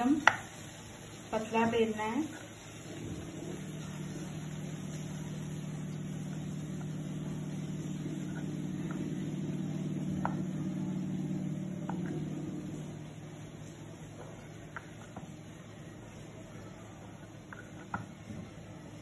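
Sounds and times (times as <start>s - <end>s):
low motor hum: 2.8s - 19.0s.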